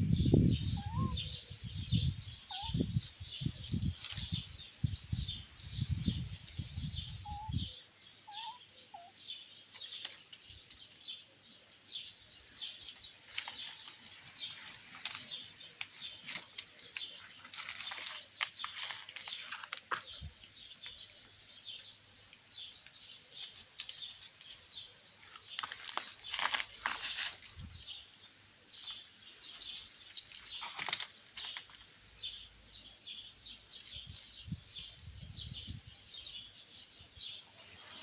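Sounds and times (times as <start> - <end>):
rustling in dry vegetation: 0.0 - 38.0.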